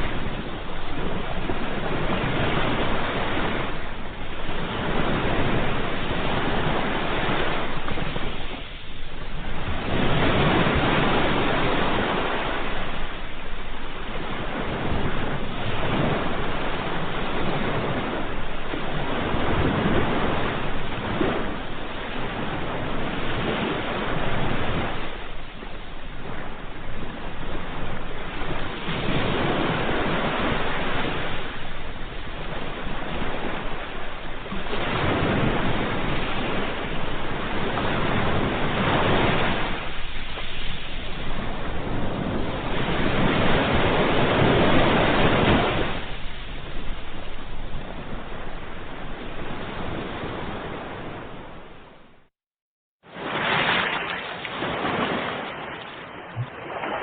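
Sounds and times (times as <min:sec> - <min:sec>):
ocean waves breaking: 0:00.0 - 0:52.3, 0:53.0 - 0:57.0.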